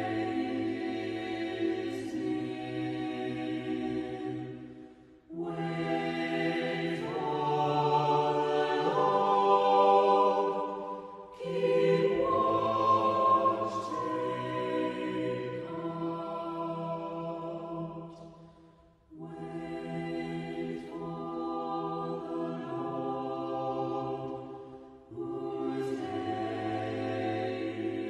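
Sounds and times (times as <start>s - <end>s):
choir singing a slow chant: 0.0s - 28.0s.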